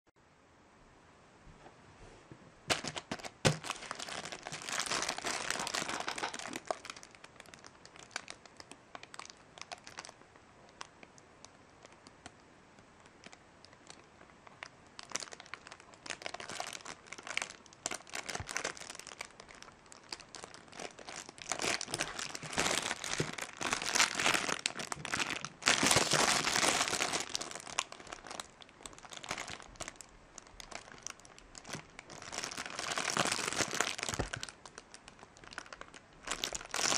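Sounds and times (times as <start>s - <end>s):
plastic packaging crinkling: 2.7s - 12.4s, 13.0s - 36.9s.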